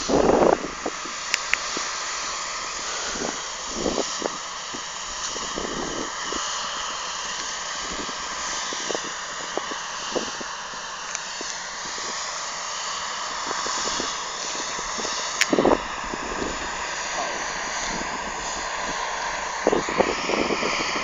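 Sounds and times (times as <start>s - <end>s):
distant combine harvester drone: 0.0s - 21.0s.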